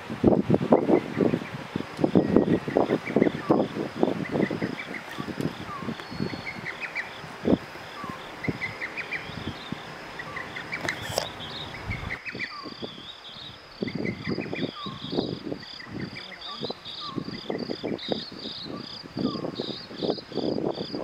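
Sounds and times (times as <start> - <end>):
crickets chirping: 0.0 - 21.0
faint background hiss: 0.0 - 21.0.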